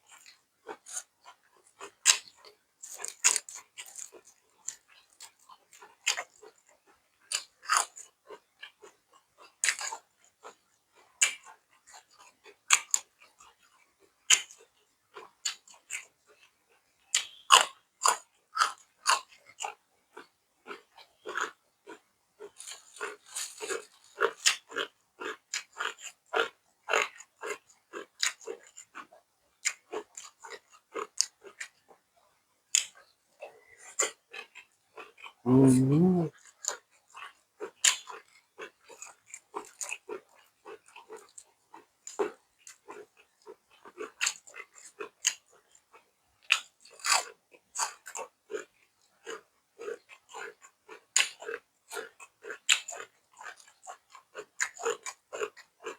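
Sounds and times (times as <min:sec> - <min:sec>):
chewing and crunching food: 0:00.0 - 0:55.9.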